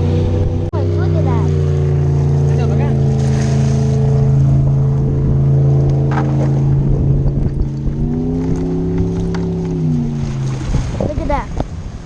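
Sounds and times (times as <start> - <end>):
motorboat engine running: 0.0 - 12.0
water splashing: 0.0 - 12.0.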